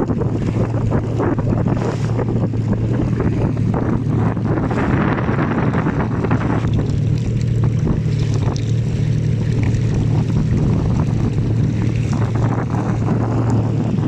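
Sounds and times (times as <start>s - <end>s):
motorboat engine running: 0.0s - 14.0s
wind noise on microphone: 0.0s - 14.0s.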